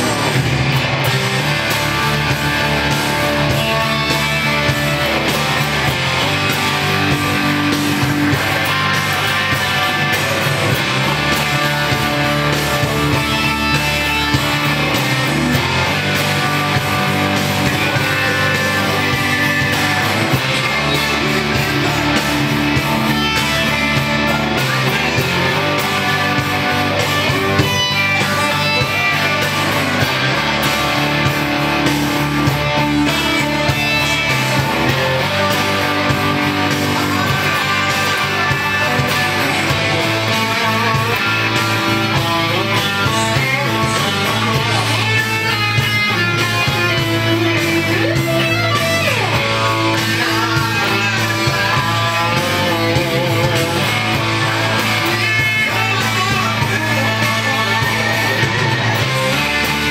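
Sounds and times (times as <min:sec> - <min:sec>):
bass line: 0:00.0 - 0:59.9
electric guitar riffs: 0:00.0 - 0:59.9.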